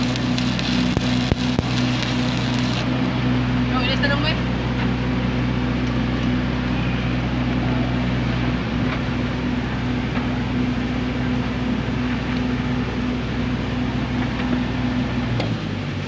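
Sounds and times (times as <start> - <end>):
welding arc crackling: 0.0 - 15.4
low machine hum: 0.0 - 16.0.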